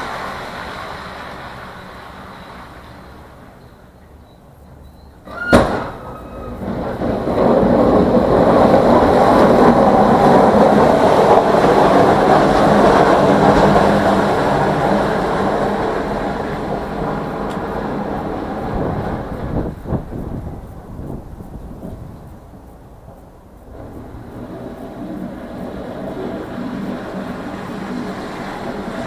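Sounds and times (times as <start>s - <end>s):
heavy vehicle rumbling past: 0.0s - 4.0s, 5.3s - 22.1s, 23.5s - 29.0s.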